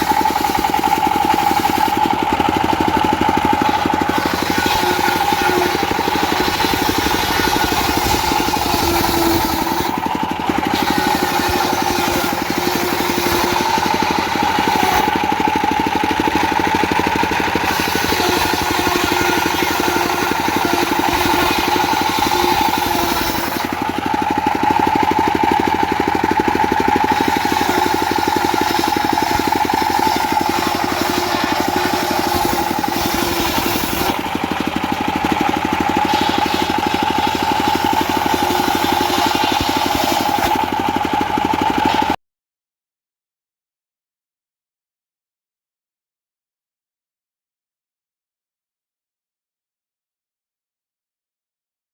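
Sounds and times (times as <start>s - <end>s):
circular saw whine: 0.0s - 42.2s
diesel engine running: 0.0s - 42.2s.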